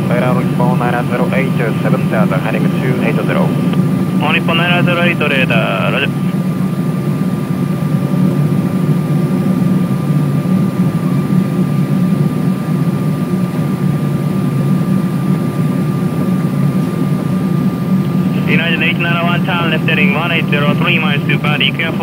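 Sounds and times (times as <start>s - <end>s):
thin steady whine: 0.0s - 12.5s, 14.0s - 22.0s
aircraft cabin engine rush: 0.0s - 22.0s.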